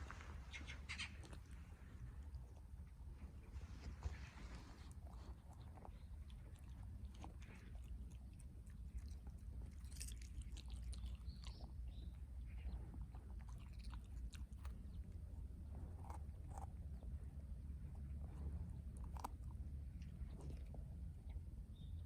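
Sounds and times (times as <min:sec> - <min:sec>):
dog chewing grass: 0:01.0 - 0:21.4.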